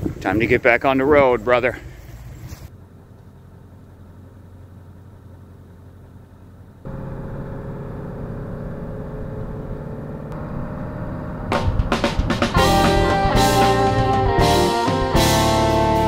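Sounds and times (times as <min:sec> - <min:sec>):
truck engine and road noise: 0:01.2 - 0:14.5.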